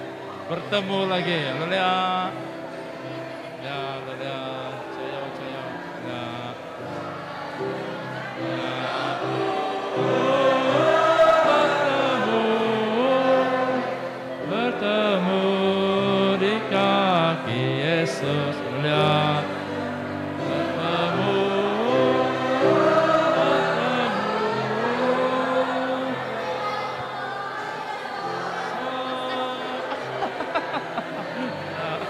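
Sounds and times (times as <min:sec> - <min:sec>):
group singing a hymn: 0:00.0 - 0:32.0.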